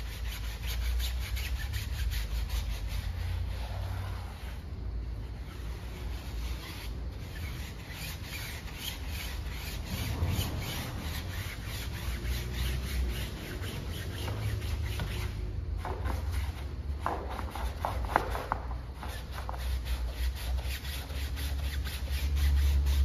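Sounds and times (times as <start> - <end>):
brush scrubbing a tyre: 0.0 - 23.0.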